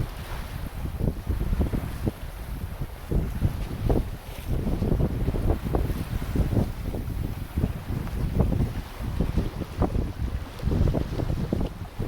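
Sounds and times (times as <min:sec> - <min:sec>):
gusty wind on microphone: 0:00.0 - 0:12.0.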